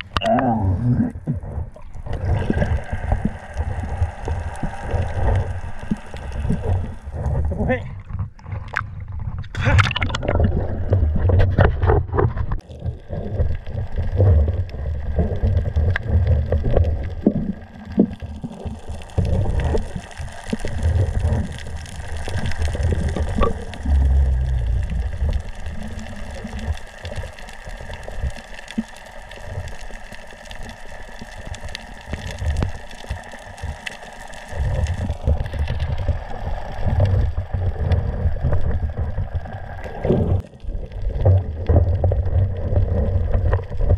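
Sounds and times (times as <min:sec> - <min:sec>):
water gurgling underwater: 0:00.0 - 0:43.9.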